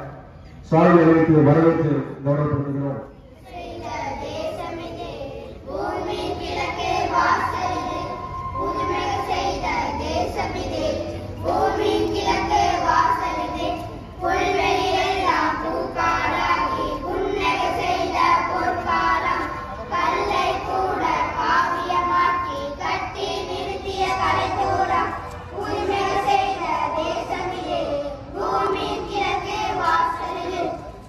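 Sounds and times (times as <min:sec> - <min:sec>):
boys singing in unison: 0:03.4 - 0:31.0.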